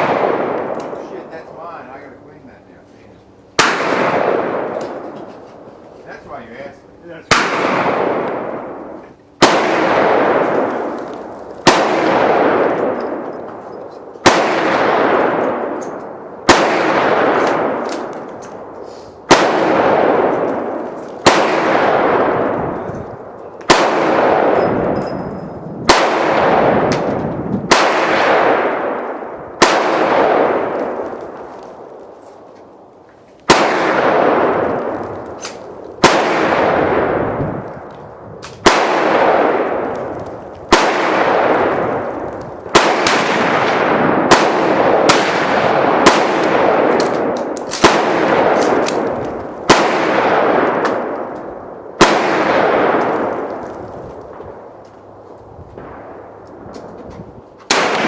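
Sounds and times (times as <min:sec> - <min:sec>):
gunshots with echo: 0:00.0 - 0:02.1, 0:03.6 - 0:05.2, 0:06.3 - 0:32.2, 0:33.5 - 0:37.9, 0:38.6 - 0:54.8, 0:57.7 - 0:58.0.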